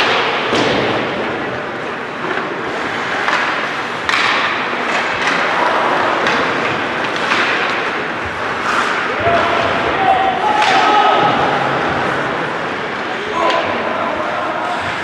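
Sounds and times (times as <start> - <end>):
steady crowd din: 0.0 - 15.0.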